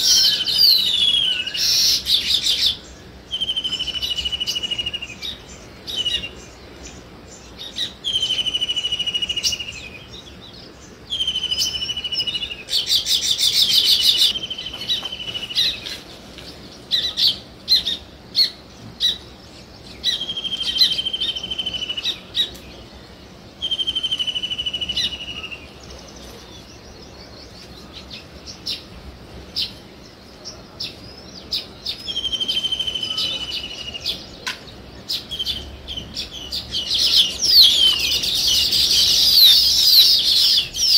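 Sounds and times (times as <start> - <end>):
bird chirps: 0.0 - 40.9.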